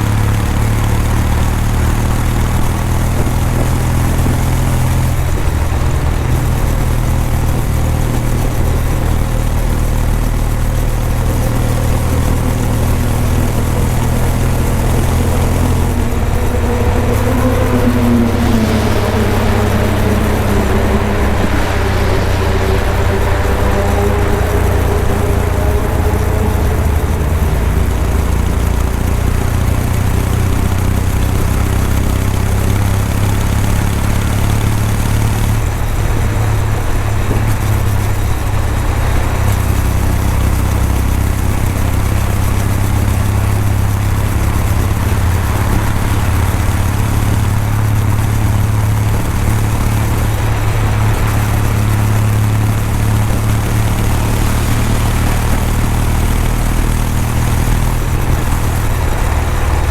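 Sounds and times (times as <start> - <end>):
motorcycle engine riding steadily: 0.0 - 59.9.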